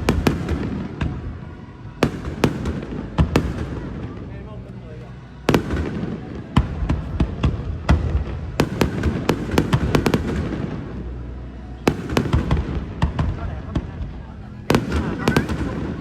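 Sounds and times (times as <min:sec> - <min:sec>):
fireworks bangs and cracks: 0:00.0 - 0:01.4, 0:02.0 - 0:04.2, 0:05.5 - 0:11.2, 0:11.9 - 0:16.0.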